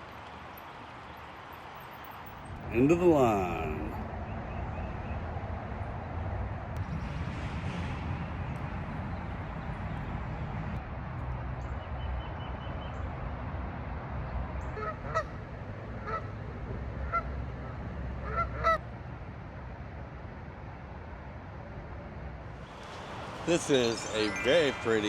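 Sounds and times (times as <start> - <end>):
low rumble of riding noise: 0.0 - 25.0.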